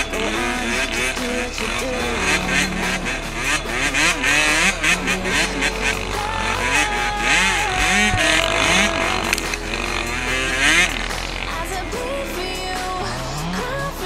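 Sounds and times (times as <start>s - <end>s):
dirt bike engine revving: 0.0s - 14.0s
pop music with steady beat: 0.0s - 14.0s.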